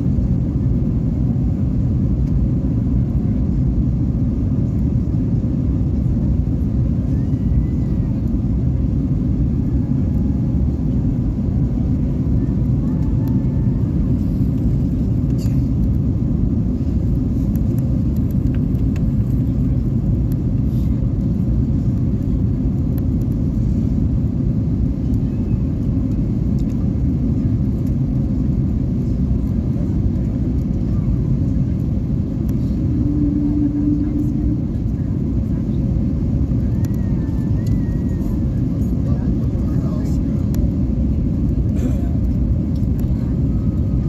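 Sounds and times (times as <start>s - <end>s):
jet cabin engine rumble: 0.0s - 44.0s.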